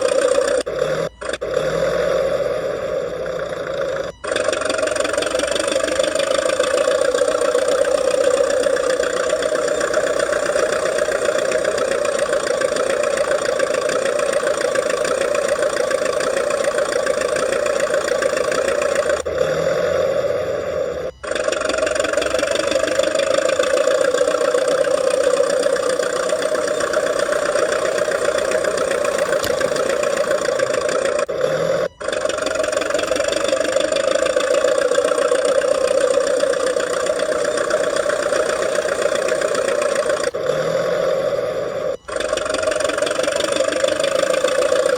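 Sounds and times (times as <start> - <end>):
model bulldozer mechanical hum: 0.0 - 44.9.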